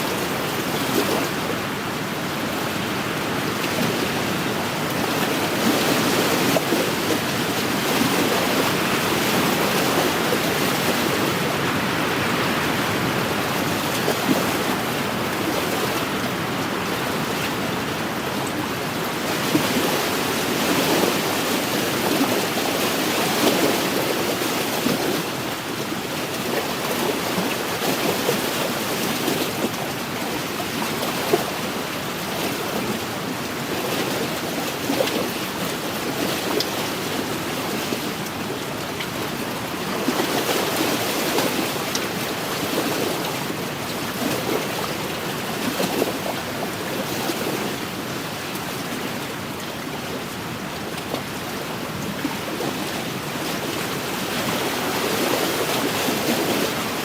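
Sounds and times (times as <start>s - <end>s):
waves lapping against shore: 0.0s - 57.0s.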